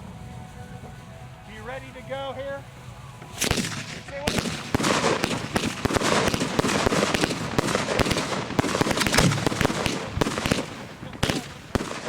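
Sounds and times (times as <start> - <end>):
continuous hiss: 0.0 - 12.0
fireworks bangs and crackles: 1.6 - 12.0.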